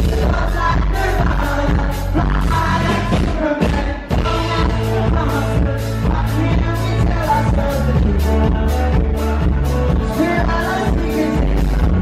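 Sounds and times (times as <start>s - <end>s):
amplified singing: 0.0s - 12.0s
drum beat: 0.0s - 12.0s.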